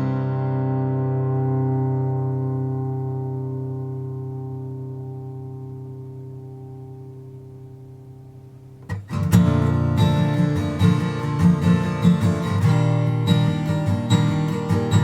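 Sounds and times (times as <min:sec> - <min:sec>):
acoustic guitar chord ringing: 0:00.0 - 0:15.0
acoustic guitar strumming: 0:00.0 - 0:15.0.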